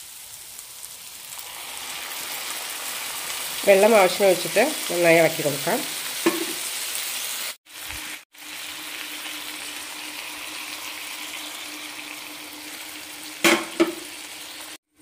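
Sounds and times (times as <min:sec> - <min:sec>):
water pouring into a hot pan: 0:00.0 - 0:14.8.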